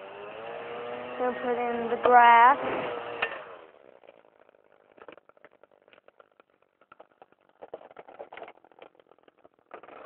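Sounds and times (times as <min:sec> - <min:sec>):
grass rustling and crackling: 0:01.2 - 0:10.0.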